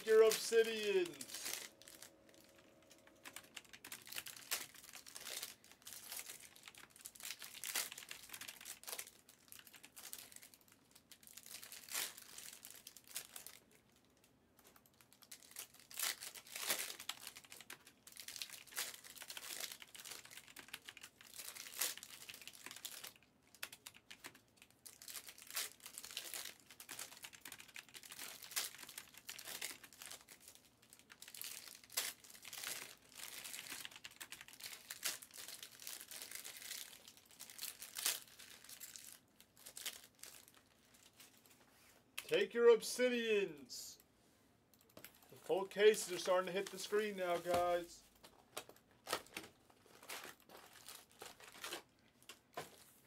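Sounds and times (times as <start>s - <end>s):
foil wrappers crinkling and tearing: 0.0s - 14.0s, 14.6s - 41.4s, 44.9s - 53.0s.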